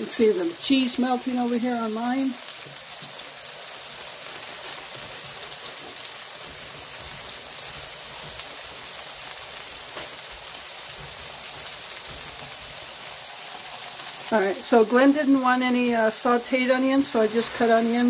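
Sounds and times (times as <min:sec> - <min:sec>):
food sizzling on griddle: 0:00.0 - 0:18.0.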